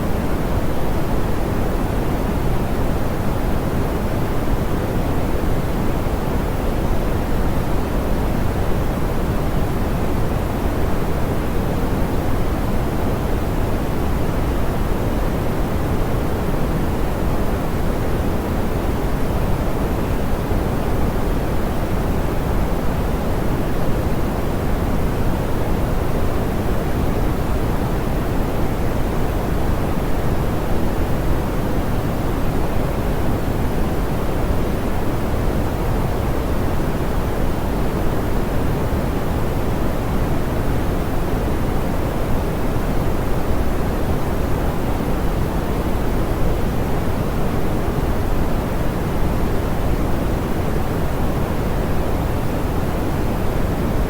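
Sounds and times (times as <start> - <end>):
low pink noise: 0.0 - 54.0.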